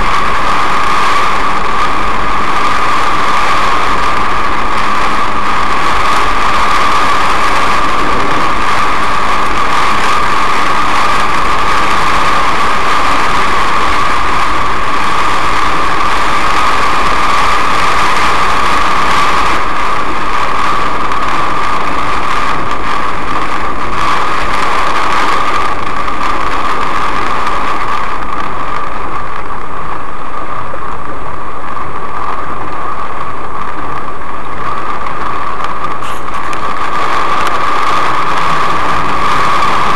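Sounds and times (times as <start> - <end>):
rain on car roof and windscreen: 0.0 - 39.9
tyres on a wet road: 0.0 - 39.9.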